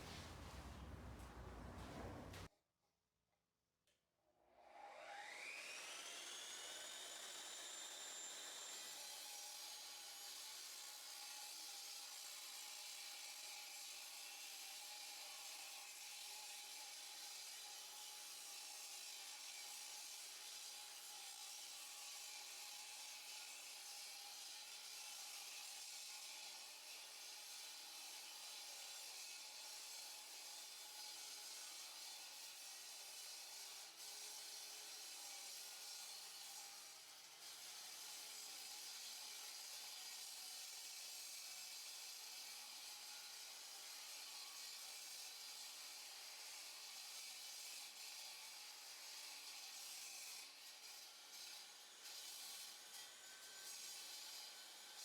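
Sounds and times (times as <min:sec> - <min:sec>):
power saw cutting concrete: 0:04.8 - 0:55.0.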